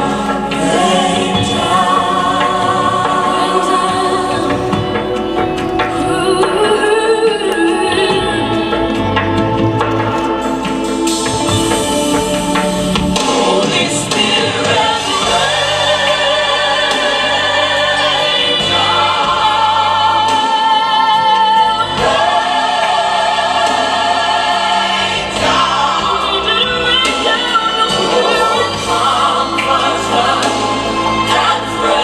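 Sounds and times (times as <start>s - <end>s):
bass accompaniment: 0.0s - 32.0s
choir singing: 0.0s - 32.0s.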